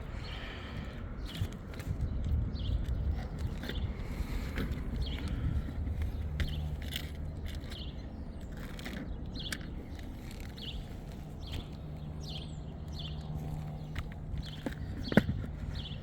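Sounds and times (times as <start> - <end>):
birds chirping: 0.0 - 16.0
low outdoor hum: 0.0 - 16.0.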